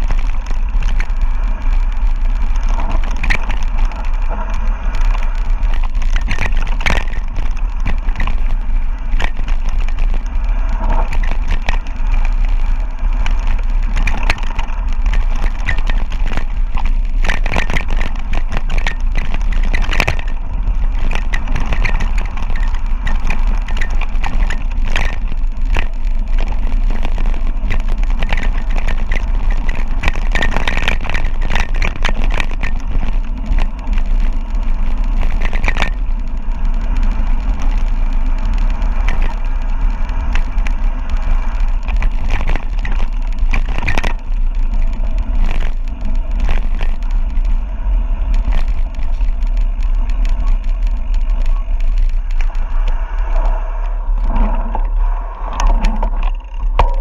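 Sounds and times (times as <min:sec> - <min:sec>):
bike rattling over gravel: 0:00.0 - 0:57.0
wind rushing over microphone: 0:00.0 - 0:57.0.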